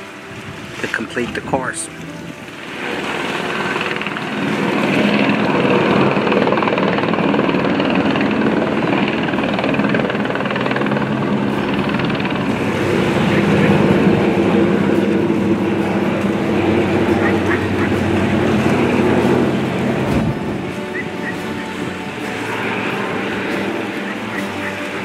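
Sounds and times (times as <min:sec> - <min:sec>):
helicopter rotor drone: 0:01.4 - 0:25.0.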